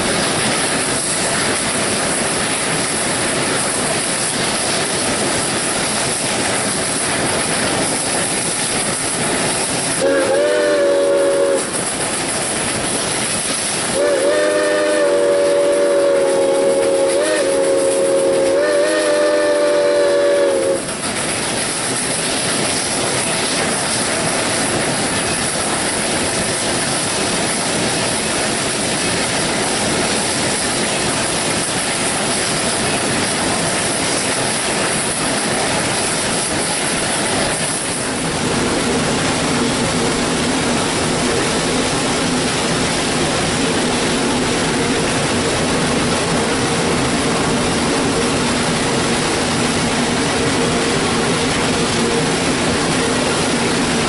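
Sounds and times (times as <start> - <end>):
steam locomotive running: 0.0 - 54.0.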